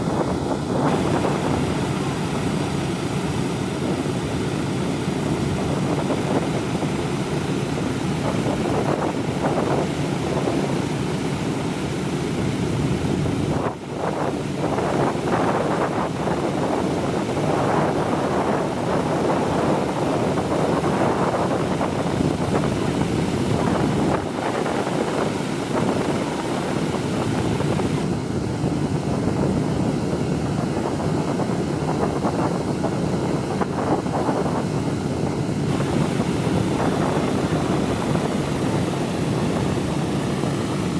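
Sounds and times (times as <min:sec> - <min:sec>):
piston aircraft engines droning: 0:00.0 - 0:40.9
wind buffeting microphone: 0:00.0 - 0:40.9.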